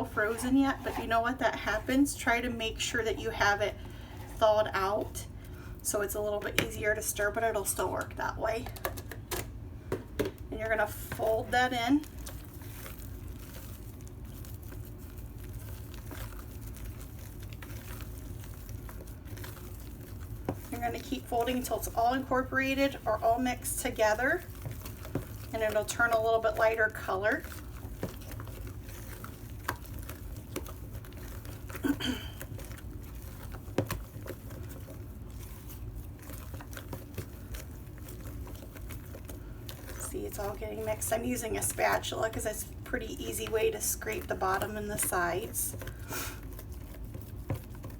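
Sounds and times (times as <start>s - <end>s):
spatula squishing and scraping bowl: 0.0s - 47.9s
steady low hum: 0.0s - 47.9s.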